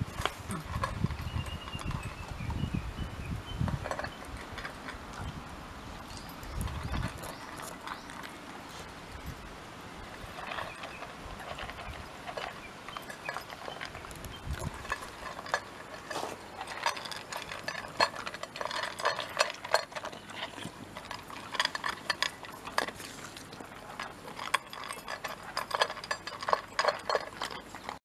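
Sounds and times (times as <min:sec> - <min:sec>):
dog crunching dry kibble: 0:00.0 - 0:02.6, 0:03.6 - 0:28.0
kibble clinking on metal bowl: 0:00.0 - 0:02.7, 0:03.7 - 0:05.3, 0:06.0 - 0:08.4, 0:10.1 - 0:28.0.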